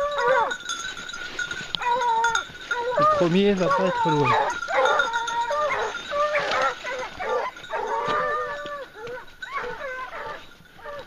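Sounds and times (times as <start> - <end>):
hounds baying and yelping: 0.0 - 11.0.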